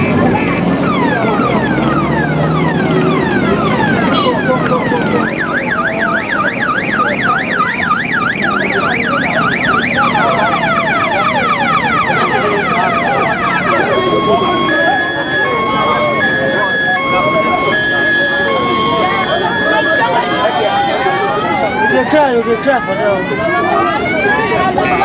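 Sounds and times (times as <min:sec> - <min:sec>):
electronic siren whooping and warbling: 0:00.0 - 0:25.0.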